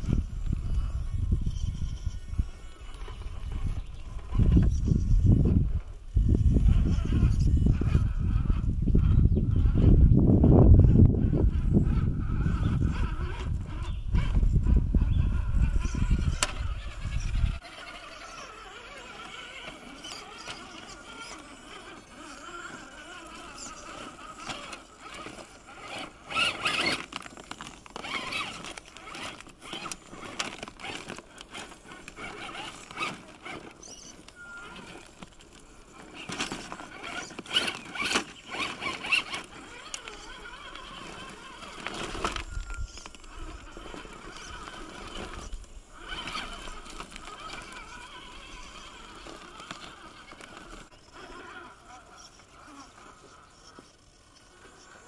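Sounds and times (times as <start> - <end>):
toy car motor whining: 0.0 - 55.0.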